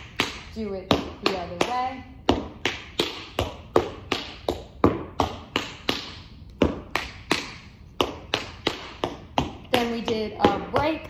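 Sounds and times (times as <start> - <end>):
tap shoes on wooden floor: 0.0 - 11.0.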